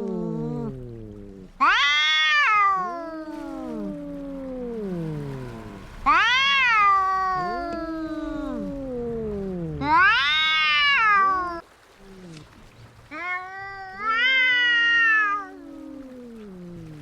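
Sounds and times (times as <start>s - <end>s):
cats yowling: 0.0s - 11.6s, 13.1s - 17.0s.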